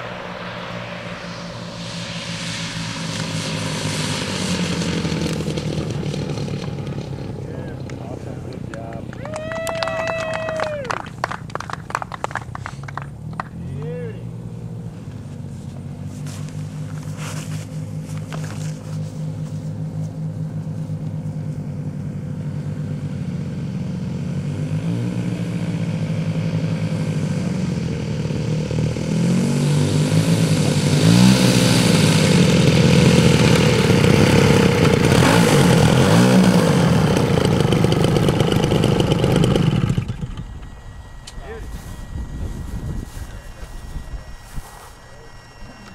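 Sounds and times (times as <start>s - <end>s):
model plane engines running: 0.0s - 45.9s.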